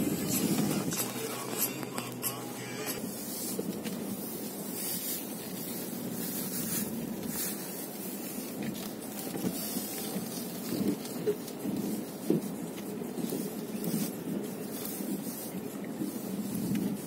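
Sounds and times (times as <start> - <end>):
car engine running low: 0.0 - 17.0
tyres hissing through snow: 0.0 - 17.0.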